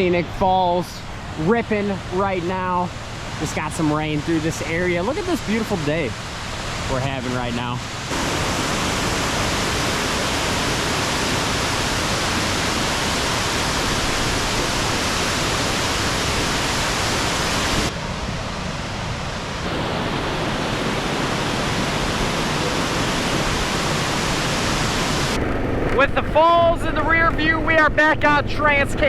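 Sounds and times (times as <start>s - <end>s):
waterfall rushing: 1.3s - 18.0s, 19.3s - 26.9s.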